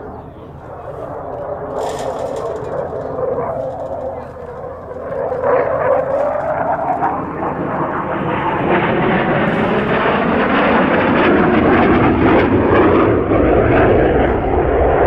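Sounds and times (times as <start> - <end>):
jet fighter passing: 0.0 - 15.0.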